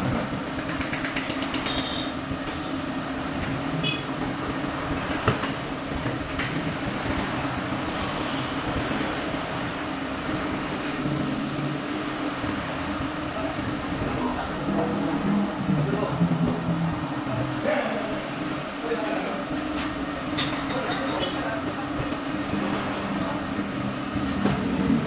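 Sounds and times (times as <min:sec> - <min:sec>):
machinery drone: 0:02.2 - 0:25.0.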